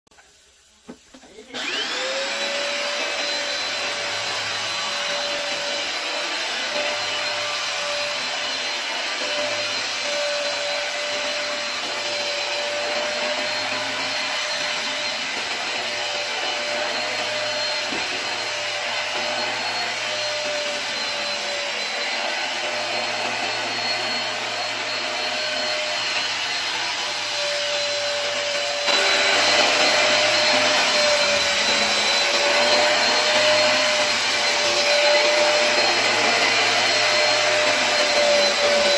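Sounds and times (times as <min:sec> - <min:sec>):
carpet cleaner motor whining: 0:01.2 - 0:38.9.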